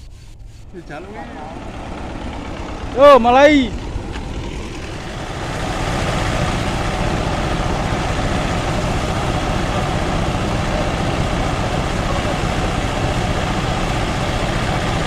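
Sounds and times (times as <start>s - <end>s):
threshing machine engine running: 0.0s - 15.0s.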